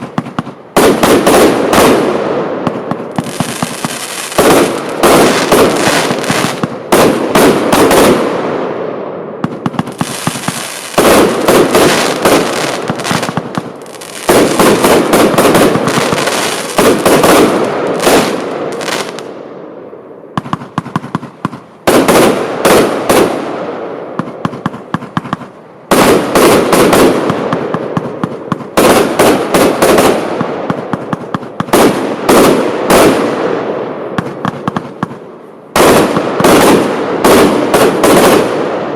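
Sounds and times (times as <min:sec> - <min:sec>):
fireworks bursts: 0:00.0 - 0:19.5, 0:20.4 - 0:38.9
fireworks shots: 0:00.0 - 0:38.9.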